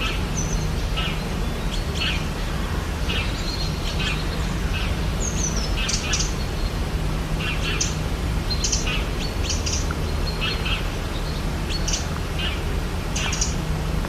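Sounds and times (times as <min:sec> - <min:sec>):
birds chirping and whistling: 0:00.0 - 0:13.7
steady low rumble: 0:00.0 - 0:14.0.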